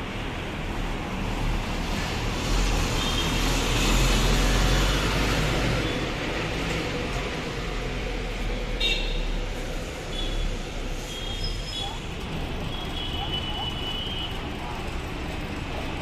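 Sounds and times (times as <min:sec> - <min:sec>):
bus engine passing by: 0:00.0 - 0:16.0.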